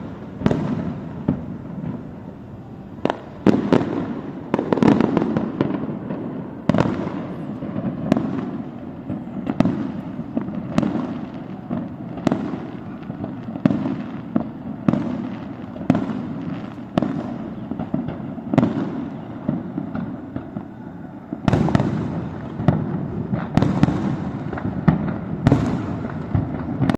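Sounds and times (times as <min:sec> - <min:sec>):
fireworks rumble and crackle: 0:00.0 - 0:26.9.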